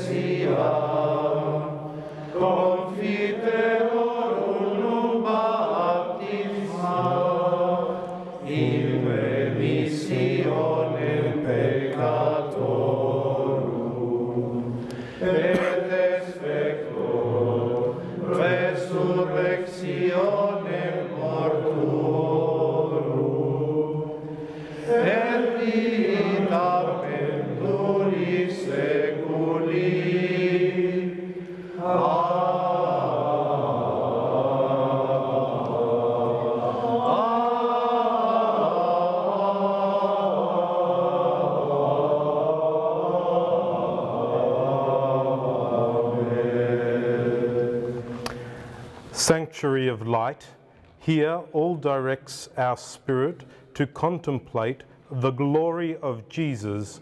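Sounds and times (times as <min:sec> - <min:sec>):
voices singing chant in unison: 0:00.0 - 0:49.0.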